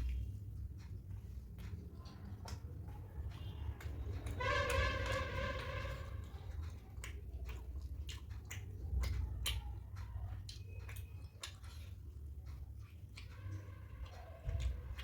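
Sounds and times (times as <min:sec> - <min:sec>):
close chewing mouth sounds: 0:00.0 - 0:15.0.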